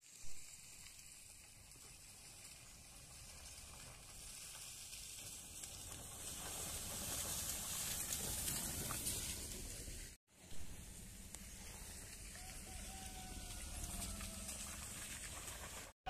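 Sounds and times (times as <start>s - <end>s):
car tyres splashing through pothole: 0.5s - 10.2s, 10.8s - 15.9s.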